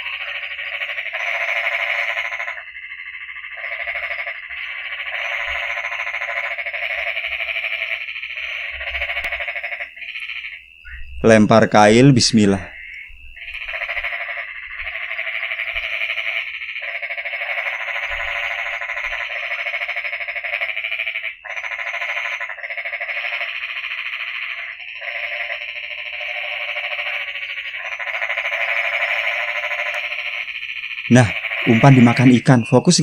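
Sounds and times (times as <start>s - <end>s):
chorus of frogs calling: 0.0s - 33.0s.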